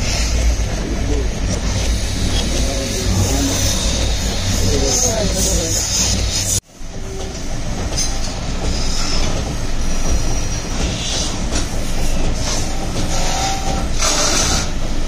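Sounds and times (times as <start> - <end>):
lathes clattering rumble: 0.0 - 15.0.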